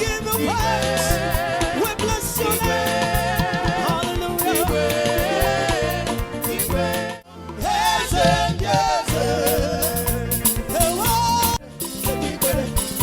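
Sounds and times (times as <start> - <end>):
gospel band with singing: 0.0 - 13.0.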